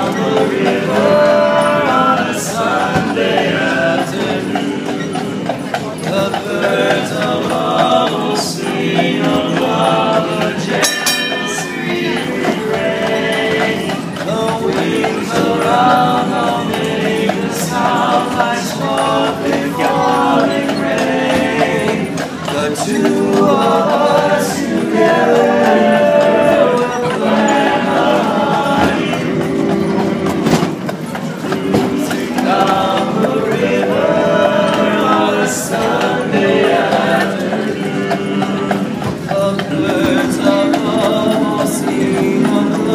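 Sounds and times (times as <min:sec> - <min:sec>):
barbershop quartet singing: 0:00.0 - 0:42.9
horse hooves clip-clopping: 0:00.0 - 0:42.9.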